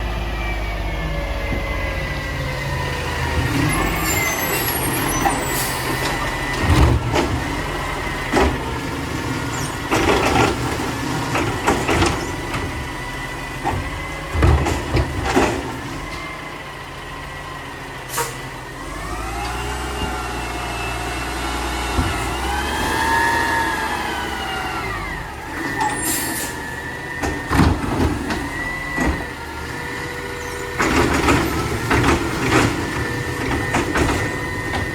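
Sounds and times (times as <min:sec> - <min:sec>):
garbage truck engine revving: 0:00.0 - 0:34.9
knocks and clanks of recycling: 0:02.7 - 0:34.9.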